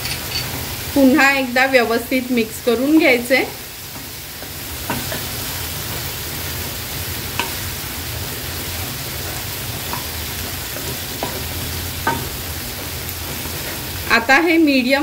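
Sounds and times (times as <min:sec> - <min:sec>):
prawns sizzling in a pan: 0:00.0 - 0:15.0.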